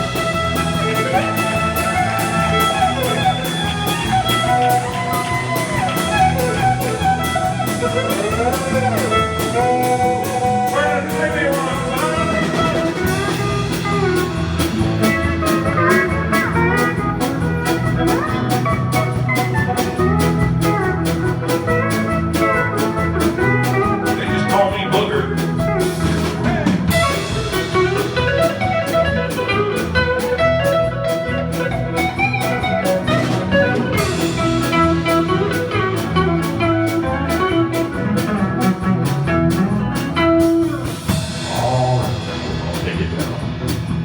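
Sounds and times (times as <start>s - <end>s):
fiddle solo: 0.0s - 41.6s
bass: 0.0s - 44.0s
guitar: 0.0s - 44.0s
steady drum beat: 0.0s - 44.0s.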